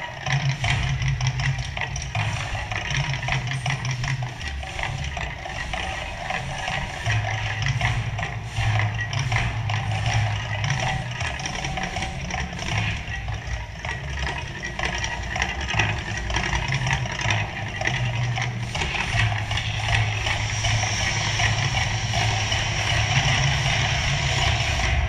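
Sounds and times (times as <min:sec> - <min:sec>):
deep steady rumble: 0:00.0 - 0:25.0
rapid crackling and rattling: 0:00.0 - 0:25.0.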